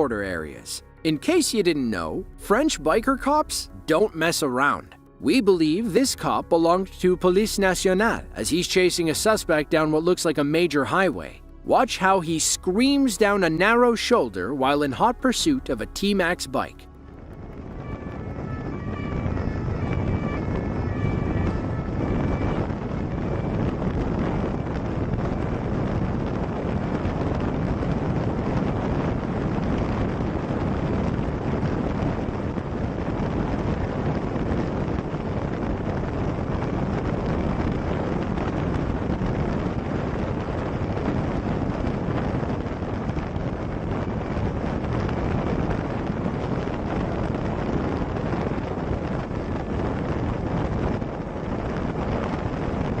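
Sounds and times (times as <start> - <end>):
wind rushing on microphone: 0.0 - 53.0.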